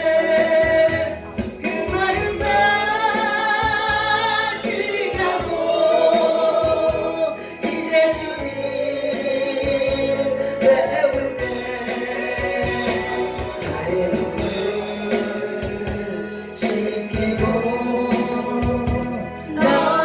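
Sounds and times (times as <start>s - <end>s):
gospel hymn singing: 0.0s - 20.0s.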